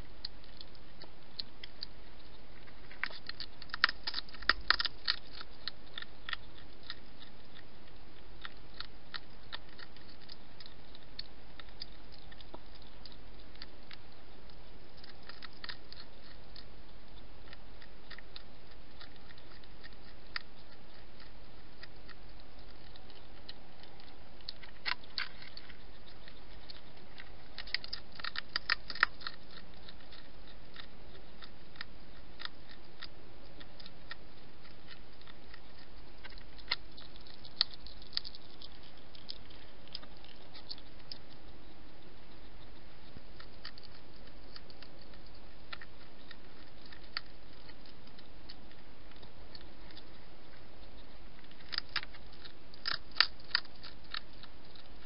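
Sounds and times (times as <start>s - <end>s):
hedgehog chewing and crunching: 0.0s - 55.0s.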